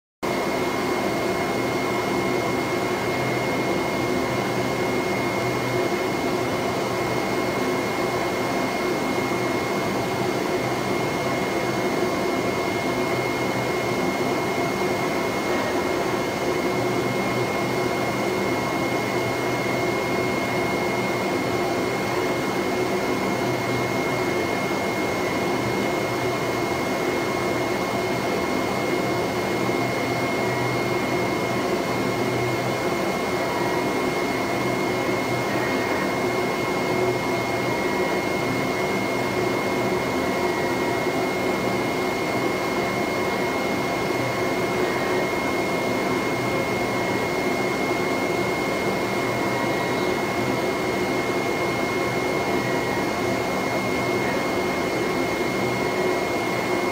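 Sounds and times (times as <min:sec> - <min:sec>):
cutting plotter machine drone: 0:00.2 - 0:56.9
high machine whine: 0:00.3 - 0:56.9.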